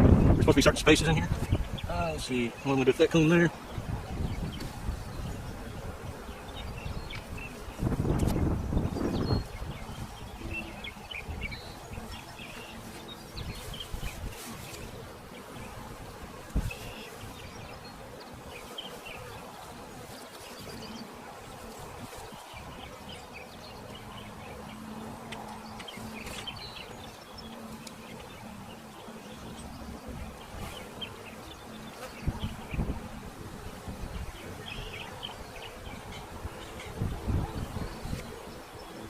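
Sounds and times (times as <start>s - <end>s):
honey bees buzzing: 0.0s - 39.0s
steady close buzz: 0.0s - 39.0s.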